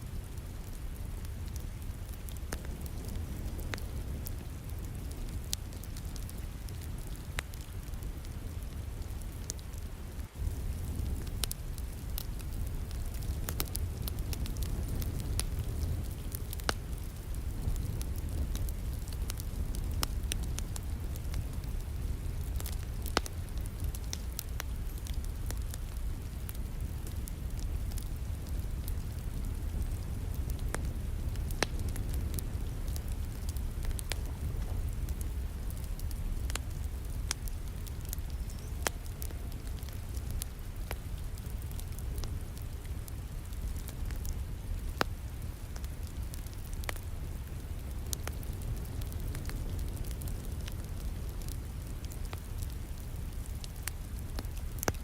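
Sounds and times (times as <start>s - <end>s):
wood fire crackling: 0.0s - 55.0s
rain falling: 0.7s - 55.0s.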